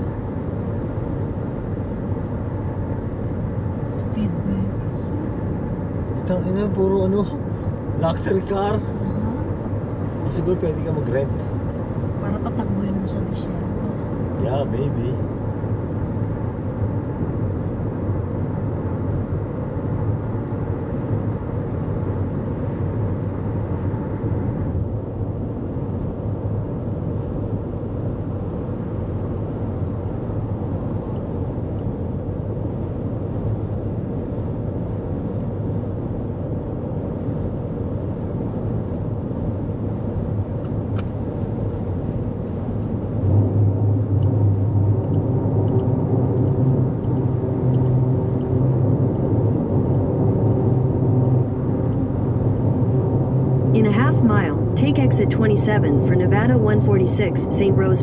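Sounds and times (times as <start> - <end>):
car road and tyre noise: 0.0 - 58.0.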